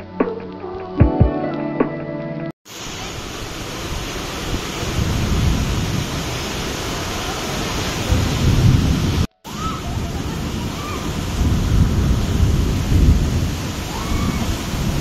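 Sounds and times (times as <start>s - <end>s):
heavy rain pouring: 2.7s - 15.0s.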